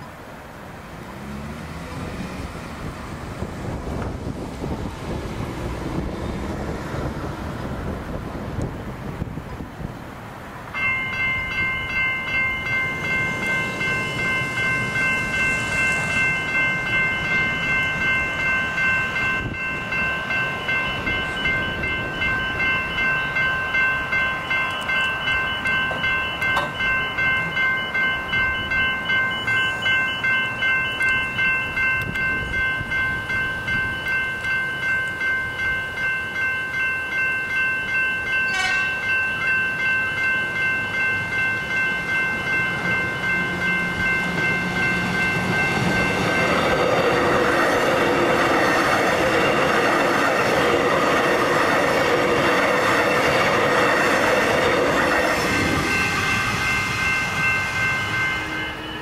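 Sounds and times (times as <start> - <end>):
level crossing bells ringing: 10.7 - 59.0.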